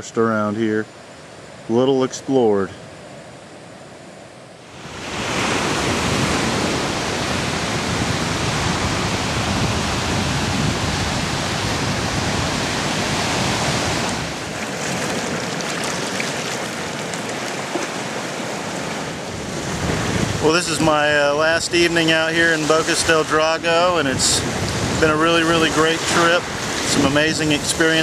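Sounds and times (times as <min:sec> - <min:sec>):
wind: 0:00.0 - 0:28.0
ocean surf: 0:00.8 - 0:28.0.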